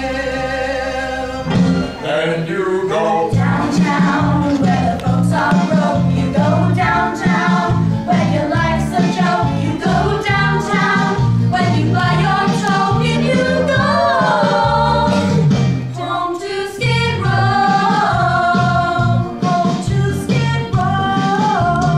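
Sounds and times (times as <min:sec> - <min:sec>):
group singing musical number: 0:00.0 - 0:21.9
instrumental backing: 0:00.0 - 0:21.9.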